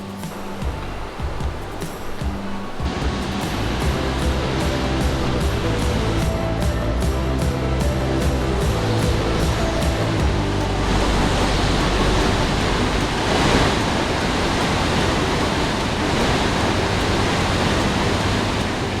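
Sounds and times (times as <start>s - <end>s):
rush of spraying water: 0.0s - 19.0s.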